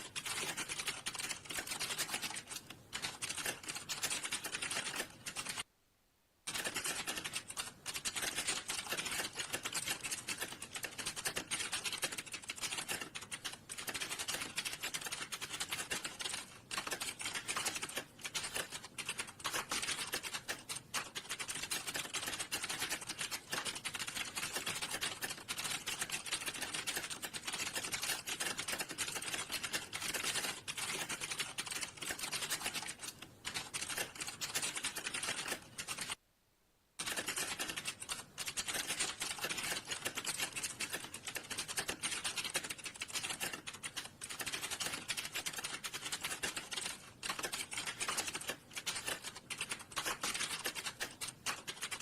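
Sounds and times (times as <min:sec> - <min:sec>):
fast keyboard typing: 0:00.0 - 0:05.7, 0:06.5 - 0:36.2, 0:37.0 - 0:52.0.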